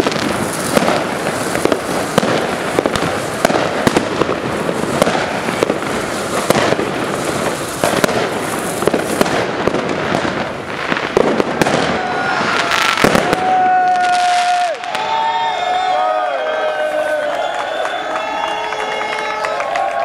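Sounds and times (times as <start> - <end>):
firecrackers crackling and banging: 0.0 - 20.0.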